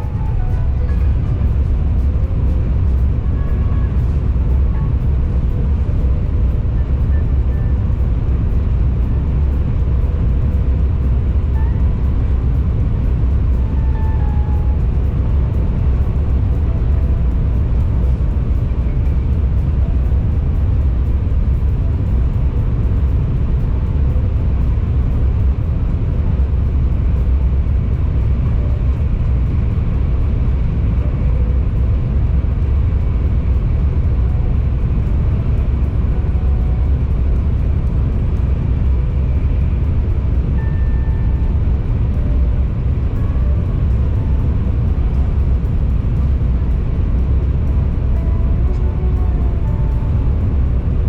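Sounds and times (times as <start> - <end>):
train interior rumble: 0.0 - 51.0.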